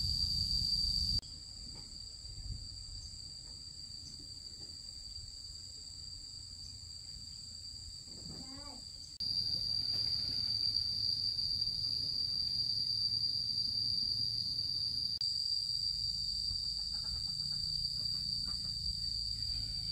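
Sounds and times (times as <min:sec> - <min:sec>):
crickets shrilling: 0:00.0 - 0:19.9.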